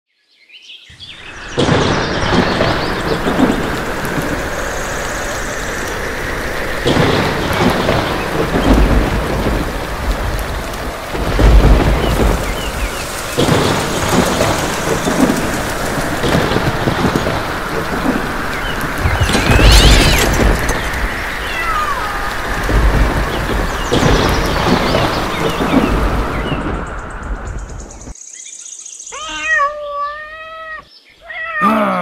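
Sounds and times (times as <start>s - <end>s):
heavy rain: 0.9s - 28.2s
rolling thunder: 0.9s - 28.2s.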